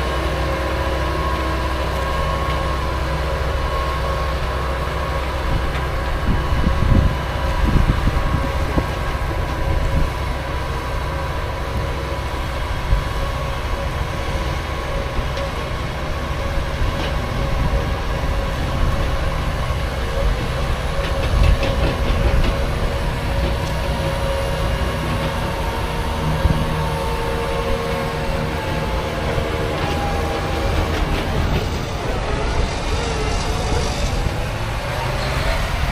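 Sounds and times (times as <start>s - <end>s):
farm machinery engine rumble: 0.0s - 35.9s
steady machine whine: 0.0s - 35.9s
machinery rattles: 1.9s - 35.9s.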